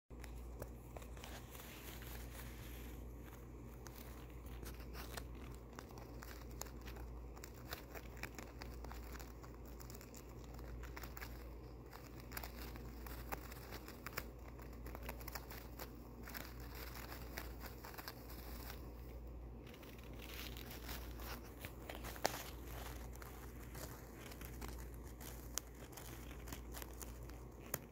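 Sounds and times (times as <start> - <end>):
hamster chewing paper towel: 0.1 - 27.9
steady low hum: 0.1 - 27.9.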